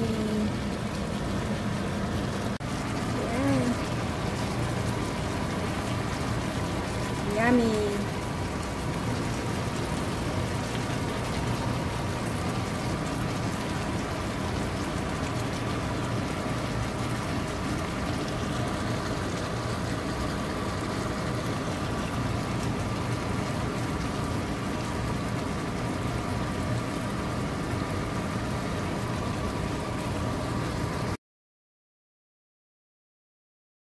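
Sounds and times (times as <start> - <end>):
stew bubbling in a pan: 0.0 - 31.2.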